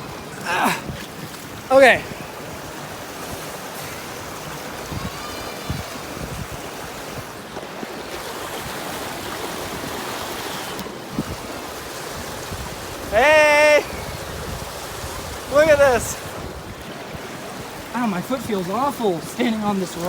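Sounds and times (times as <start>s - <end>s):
fast-flowing creek water: 0.0s - 20.0s.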